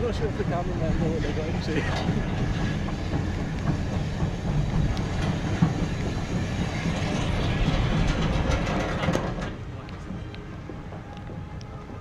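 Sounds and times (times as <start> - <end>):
roller coaster wheels rumbling: 0.0 - 12.0.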